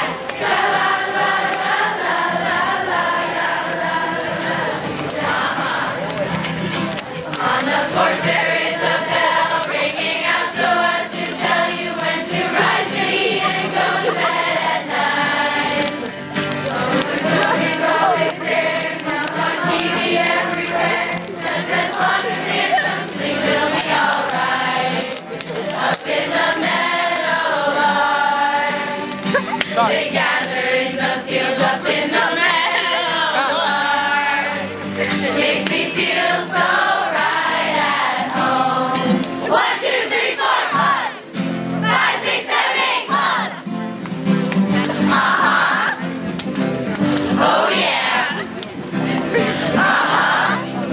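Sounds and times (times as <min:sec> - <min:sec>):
group singing in chorus: 0:00.0 - 0:06.2, 0:07.2 - 0:43.8, 0:44.9 - 0:46.0, 0:47.2 - 0:50.9.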